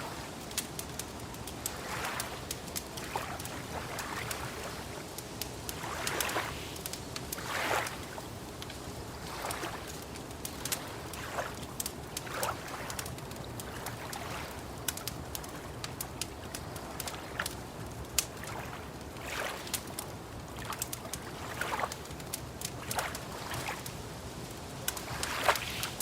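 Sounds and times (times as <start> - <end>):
lake water lapping: 0.0 - 26.0
wood fire crackling: 0.0 - 26.0.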